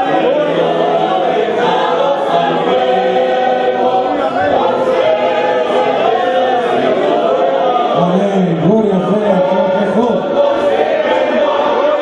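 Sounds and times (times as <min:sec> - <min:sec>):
church choir singing: 0:00.0 - 0:12.0.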